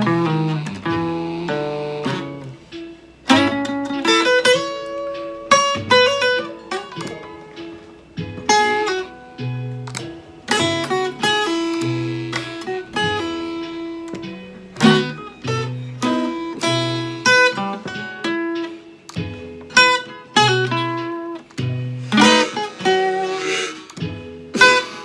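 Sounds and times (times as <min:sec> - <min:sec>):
blues guitar playing: 0:00.0 - 0:25.0.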